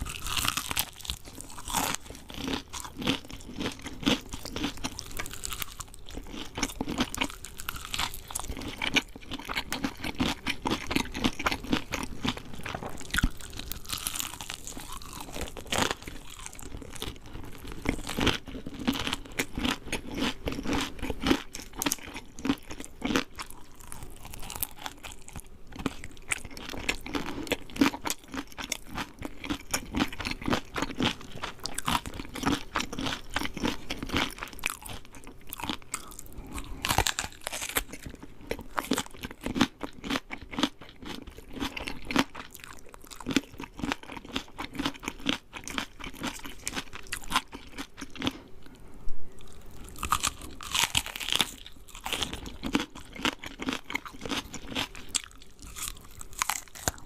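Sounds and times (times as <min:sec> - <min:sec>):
crunching and chewing fried chicken: 0:00.0 - 0:48.8, 0:49.4 - 0:57.0.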